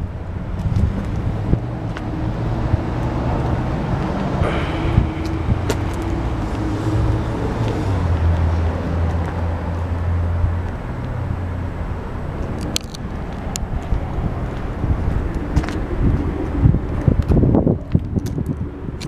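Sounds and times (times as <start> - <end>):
outdoor background noise: 0.0 - 19.0
vehicle engine humming: 0.0 - 19.0.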